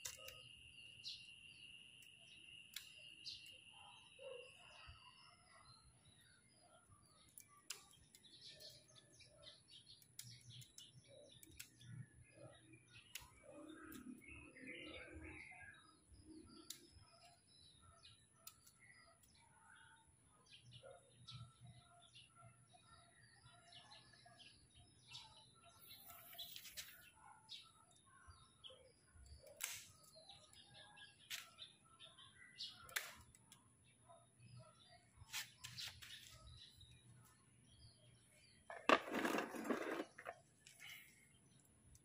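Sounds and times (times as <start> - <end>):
faint birds chirping: 0.0 - 42.0.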